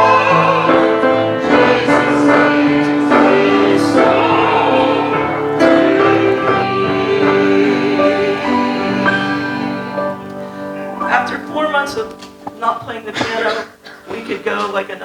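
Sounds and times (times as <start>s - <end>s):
instrumental worship music: 0.0s - 15.0s.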